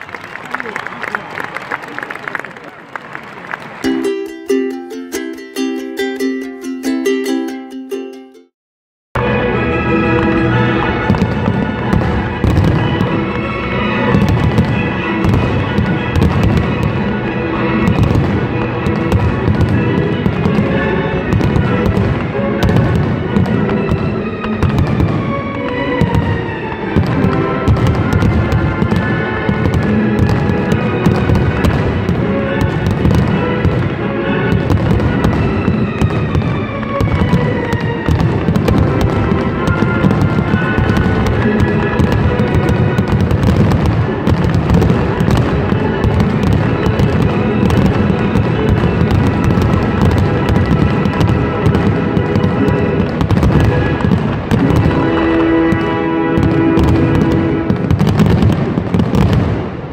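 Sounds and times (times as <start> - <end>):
music playing: 3.6 - 8.5, 9.2 - 59.2
fireworks bangs and crackling: 9.2 - 59.9.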